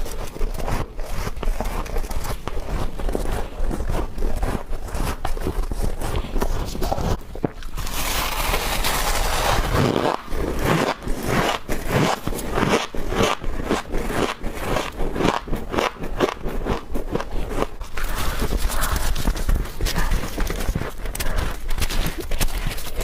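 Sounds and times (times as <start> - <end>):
crunching while eating: 0.0 - 23.0
frost being scraped: 0.0 - 23.0.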